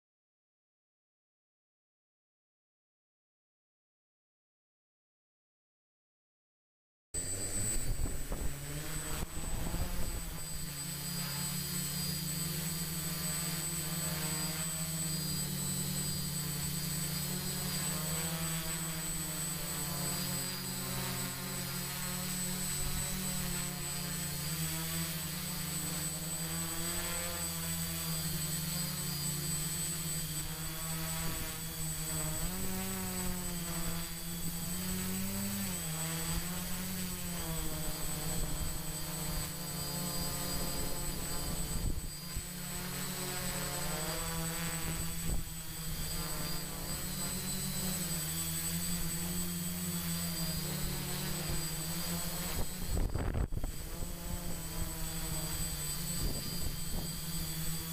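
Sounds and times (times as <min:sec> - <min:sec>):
drone propellers whirring: 0:07.2 - 0:57.9.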